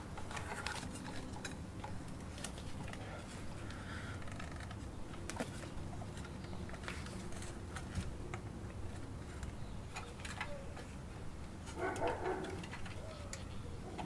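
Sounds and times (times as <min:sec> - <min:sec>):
wire clicking and scraping: 0:00.0 - 0:10.9, 0:11.5 - 0:14.0.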